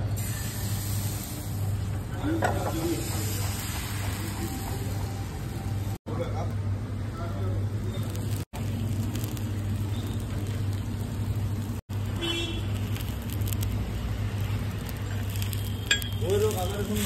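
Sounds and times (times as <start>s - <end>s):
gas stove humming and hissing: 0.0s - 17.0s.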